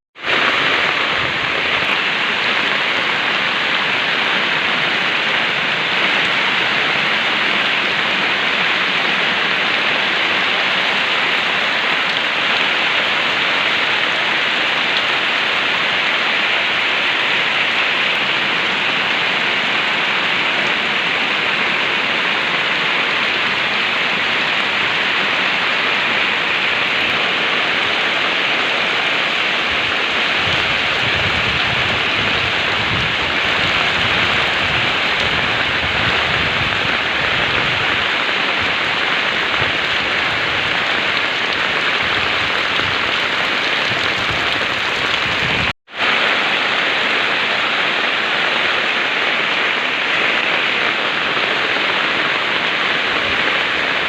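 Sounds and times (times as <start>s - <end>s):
heavy rain pouring: 0.1s - 54.0s.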